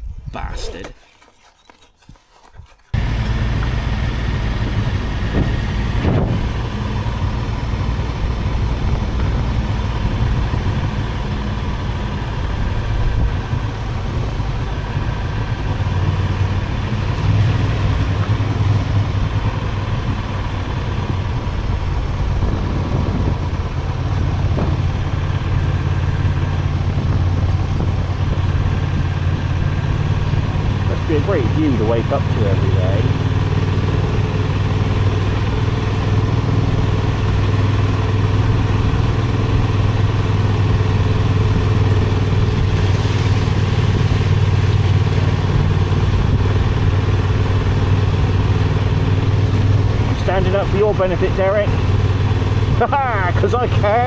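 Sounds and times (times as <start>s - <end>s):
motorcycle engine droning: 3.0s - 54.0s.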